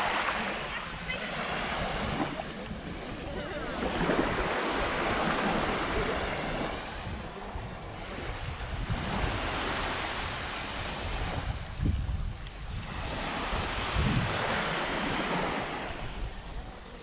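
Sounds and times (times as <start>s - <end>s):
small waves on sandy beach: 0.0s - 17.0s
wind buffeting microphone: 0.0s - 17.0s.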